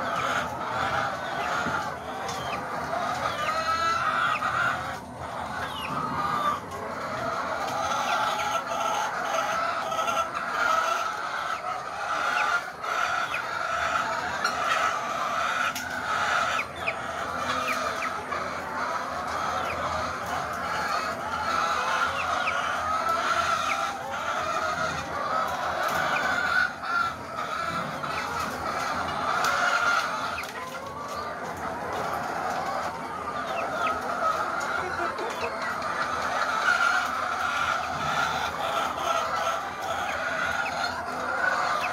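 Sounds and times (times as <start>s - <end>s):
hens clucking: 0.0s - 41.9s.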